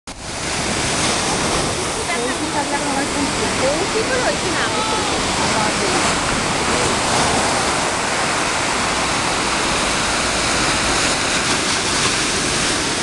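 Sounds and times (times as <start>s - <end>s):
ocean waves breaking: 0.1s - 13.0s.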